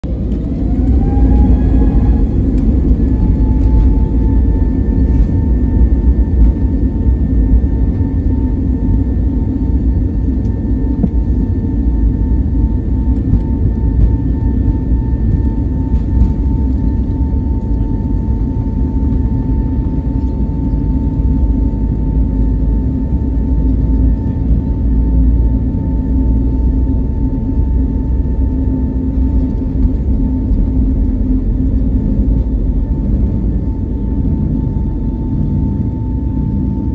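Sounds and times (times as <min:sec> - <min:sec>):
jet engine whine: 0:00.0 - 0:36.9
low rumble of takeoff roll: 0:00.0 - 0:36.9.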